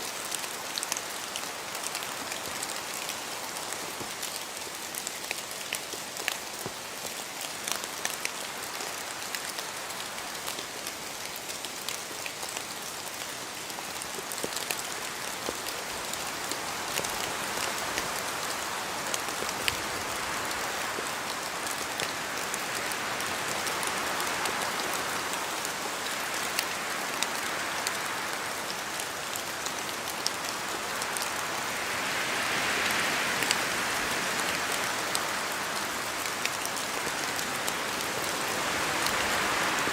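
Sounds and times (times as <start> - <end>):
steady rain in a forest: 0.0 - 39.9
wind through trees: 0.0 - 39.9.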